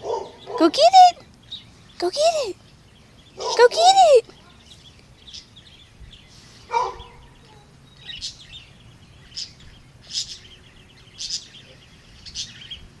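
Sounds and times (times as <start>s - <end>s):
bird chirping: 0.0s - 13.0s
faint background chirping: 0.0s - 13.0s.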